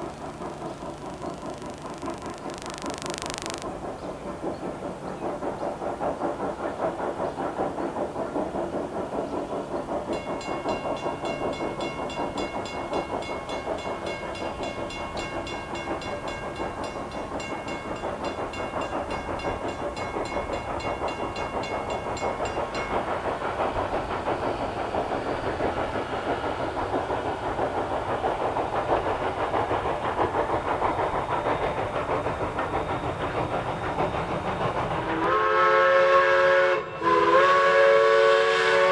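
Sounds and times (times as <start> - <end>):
steam train clattering: 0.0 - 38.9.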